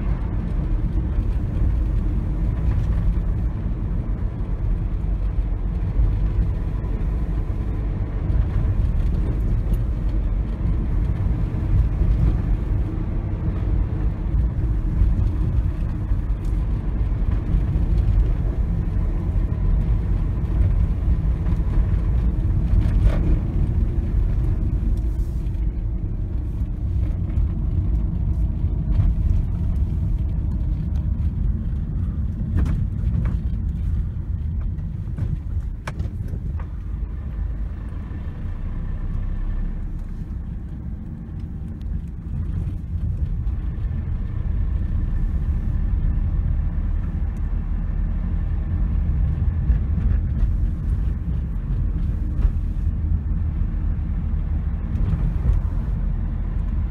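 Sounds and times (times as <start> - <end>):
car driving heard from inside: 0.0 - 56.9
tyre road noise: 0.0 - 56.9.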